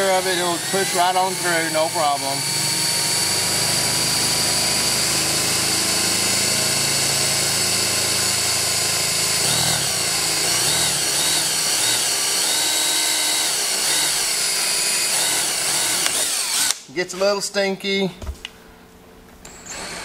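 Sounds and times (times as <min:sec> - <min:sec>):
cordless drill boring: 0:00.0 - 0:16.8, 0:19.5 - 0:20.0.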